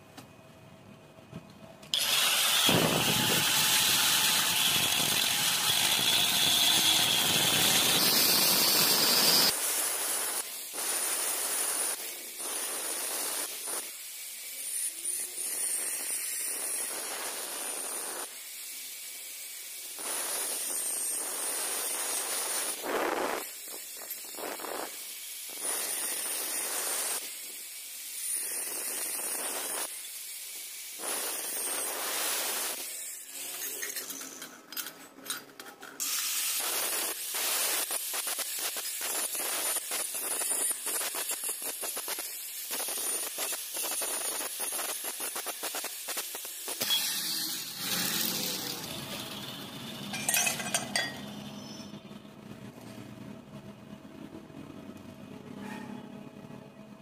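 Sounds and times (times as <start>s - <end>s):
angle grinder cutting steel: 1.9s - 35.4s, 36.0s - 51.9s.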